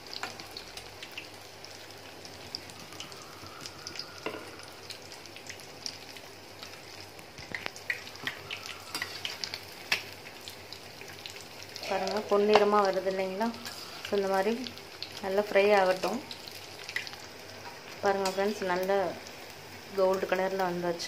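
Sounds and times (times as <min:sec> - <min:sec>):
crackles and pops of frying: 0:00.0 - 0:21.0
food deep-frying in oil: 0:00.0 - 0:21.0.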